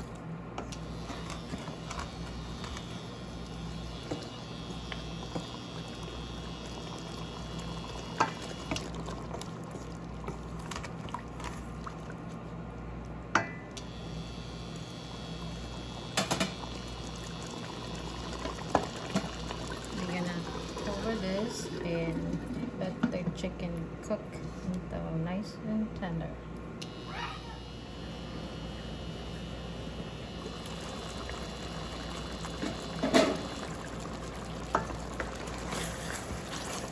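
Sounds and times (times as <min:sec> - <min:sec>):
liquid bubbling in a pot: 0:00.0 - 0:24.0, 0:26.9 - 0:36.9.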